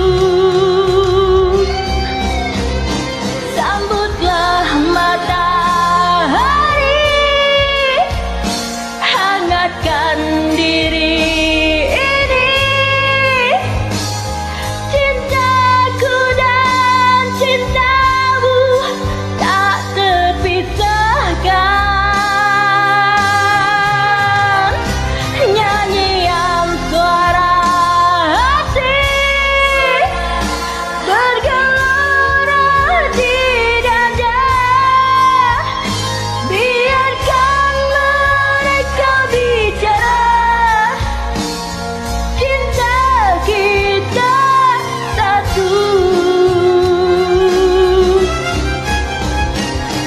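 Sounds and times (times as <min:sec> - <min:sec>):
woman singing: 0:00.0 - 0:02.5, 0:03.3 - 0:48.7
karaoke backing track: 0:00.0 - 0:50.0
pop song melody with bass: 0:00.0 - 0:50.0.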